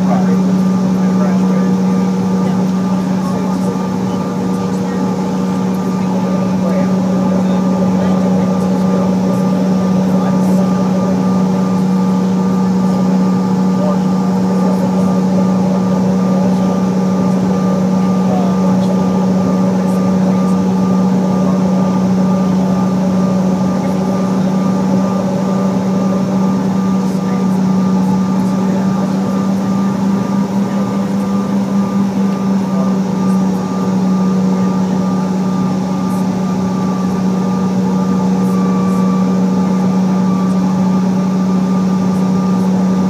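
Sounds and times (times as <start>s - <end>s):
jet engines droning: 0.0s - 43.0s.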